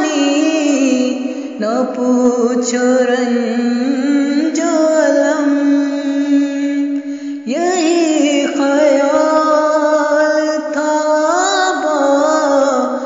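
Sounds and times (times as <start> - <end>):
solo voice singing long notes: 0.0 - 13.0.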